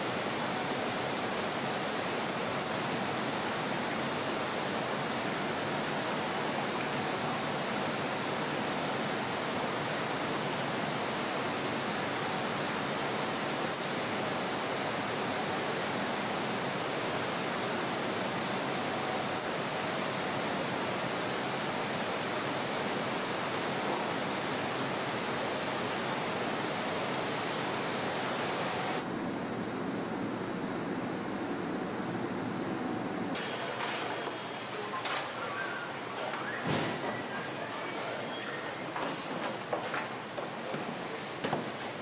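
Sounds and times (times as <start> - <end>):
steady hiss: 0.0 - 29.2, 33.3 - 42.0.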